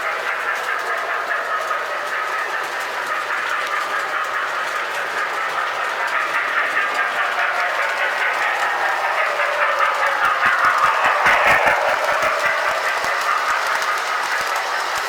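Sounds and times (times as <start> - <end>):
toy train rolling rumble: 0.0 - 15.0.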